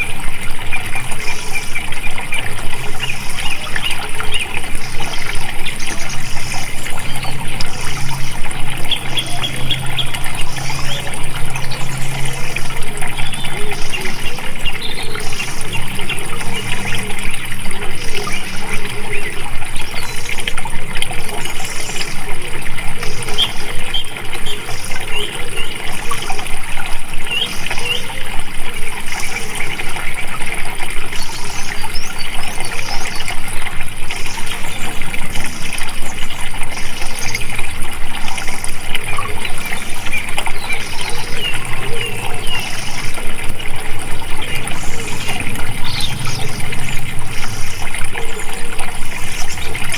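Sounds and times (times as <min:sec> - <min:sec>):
small birds chirping: 0:00.0 - 0:22.4, 0:23.0 - 0:49.9
water flowing and splashing: 0:00.0 - 0:49.9.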